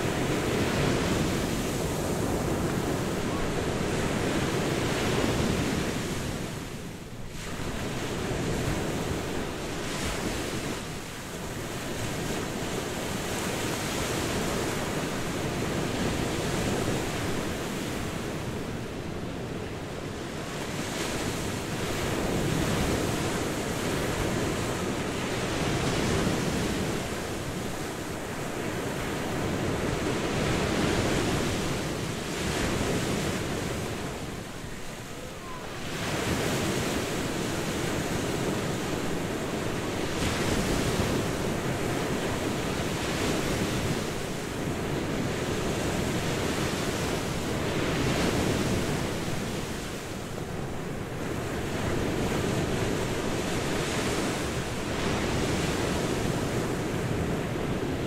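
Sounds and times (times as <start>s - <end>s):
sea waves breaking on a beach: 0.0s - 58.0s.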